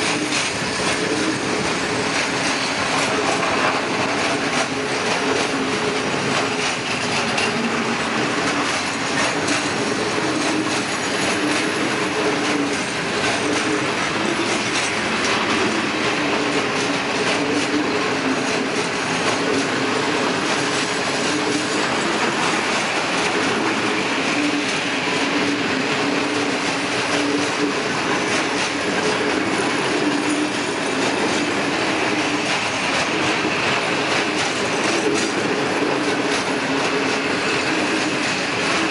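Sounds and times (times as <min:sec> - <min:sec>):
train wheels rumbling on rails: 0:00.0 - 0:38.9
wavering wheel whine: 0:00.0 - 0:38.9
wheels clicking over rail joints: 0:00.0 - 0:38.9.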